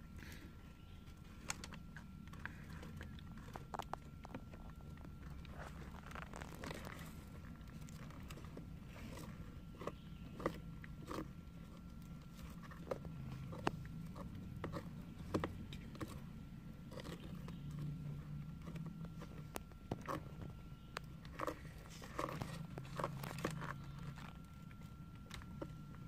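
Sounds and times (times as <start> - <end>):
tortoises crunching carrot: 0.0 - 26.0.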